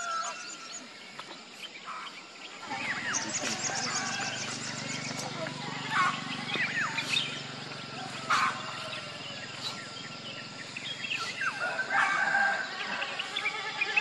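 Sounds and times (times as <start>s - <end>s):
birds chirping and whistling: 0.0s - 14.0s.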